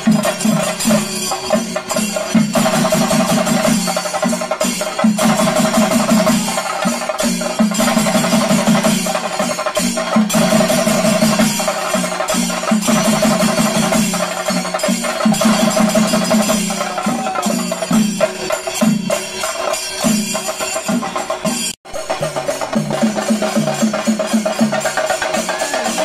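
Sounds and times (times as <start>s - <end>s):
drum ensemble fast stick strokes: 0.0s - 26.0s.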